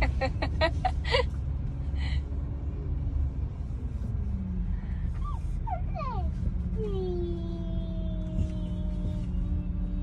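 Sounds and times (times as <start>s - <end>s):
car engine rumble: 0.0s - 10.0s
road noise inside car: 0.0s - 10.0s.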